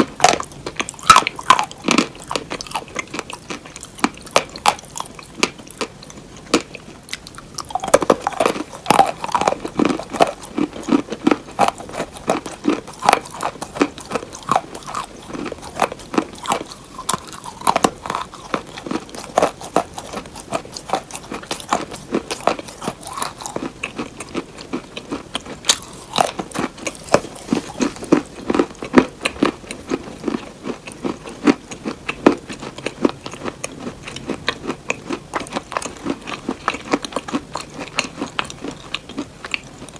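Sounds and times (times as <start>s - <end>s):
hard cheese being chewed: 0.0s - 39.9s.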